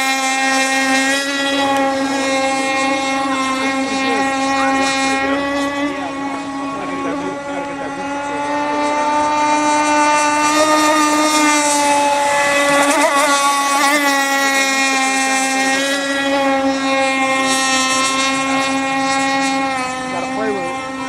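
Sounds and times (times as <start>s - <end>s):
model boat engine buzzing: 0.0s - 21.0s.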